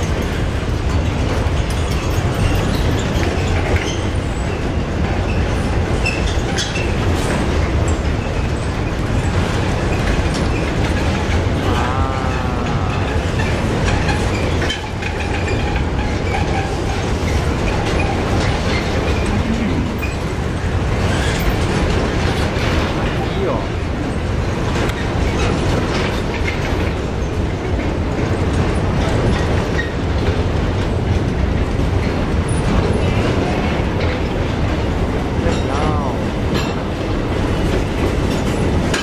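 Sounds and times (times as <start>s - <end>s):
freight train wheels rumbling: 0.0s - 39.0s
wheels clickety-clack over joints: 0.0s - 39.0s.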